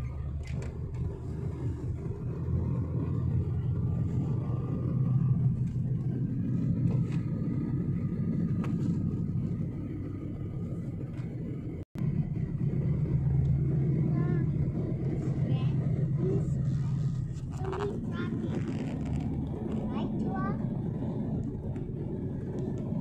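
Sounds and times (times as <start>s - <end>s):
car cabin road and engine rumble: 0.0s - 23.0s.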